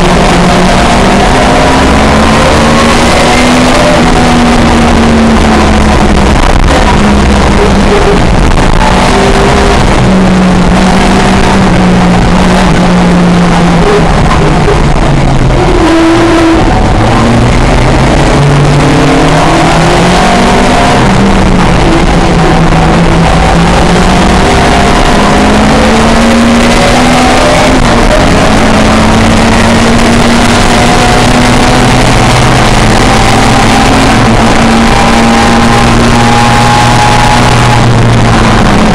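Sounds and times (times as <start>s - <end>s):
racing car engine accelerating: 0.0s - 38.9s.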